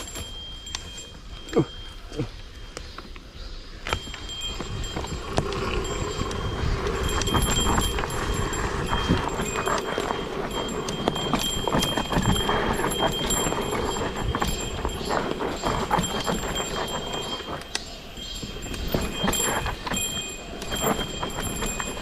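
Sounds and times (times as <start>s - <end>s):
mountain bike rattling: 0.0s - 2.7s, 3.7s - 22.0s.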